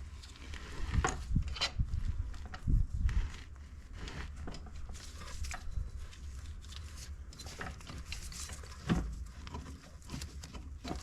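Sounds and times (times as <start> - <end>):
metal engine parts clicking and scraping: 0.0 - 11.0.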